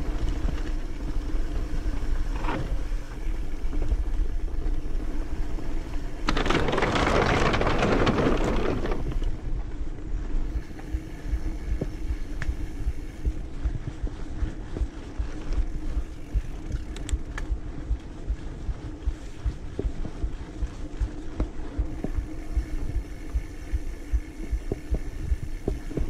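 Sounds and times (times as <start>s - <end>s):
low bumps: 0.0s - 26.0s.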